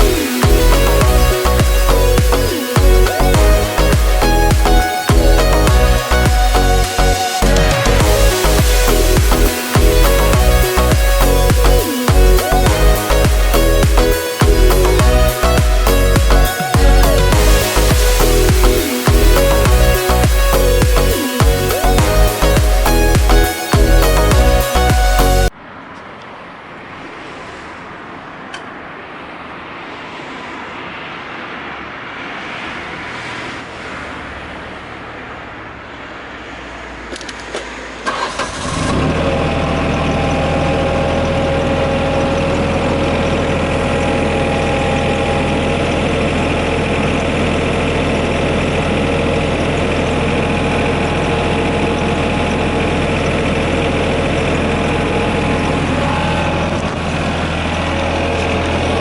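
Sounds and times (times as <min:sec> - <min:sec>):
diesel engine starting and idling: 0:00.0 - 0:25.5, 0:33.3 - 0:59.0.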